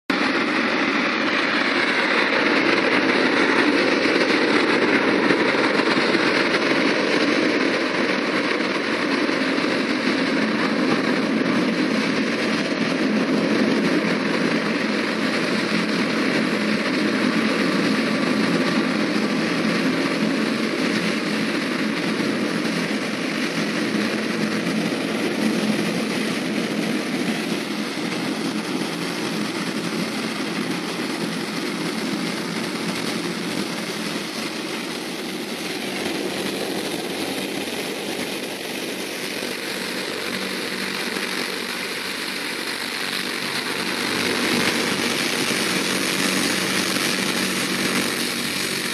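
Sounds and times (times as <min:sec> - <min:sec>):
hovercraft roar: 0:00.1 - 0:48.9.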